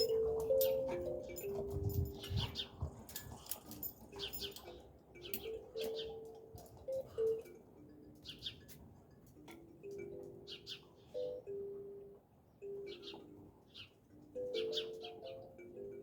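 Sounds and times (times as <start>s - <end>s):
kalimba plucked tune: 0.0s - 2.6s, 4.2s - 13.1s, 14.4s - 16.0s
small birds chirping: 0.0s - 7.5s, 8.2s - 8.8s, 9.9s - 11.7s, 12.7s - 15.9s.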